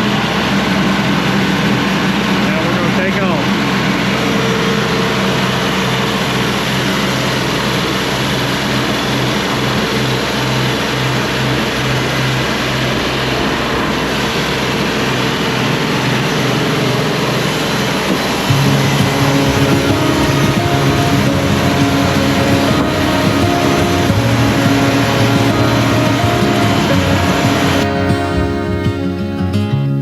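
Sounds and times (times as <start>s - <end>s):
sawmill engine droning: 0.0s - 30.0s.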